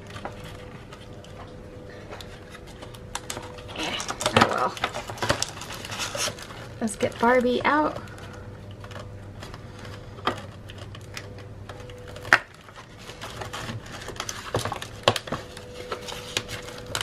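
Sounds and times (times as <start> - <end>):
faint steady hum: 0.0 - 17.0
packaging clicks and taps: 2.2 - 17.0.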